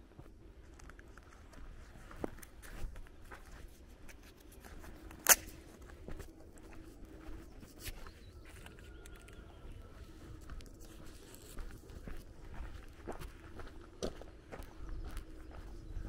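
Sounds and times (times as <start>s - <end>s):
footsteps on gravel: 0.2s - 16.0s.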